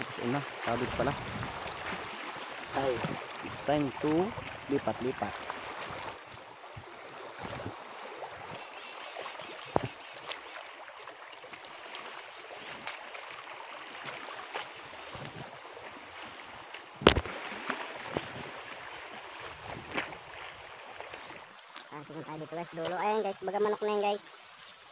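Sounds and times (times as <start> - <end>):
small waves lapping against rocks: 0.0 - 24.9.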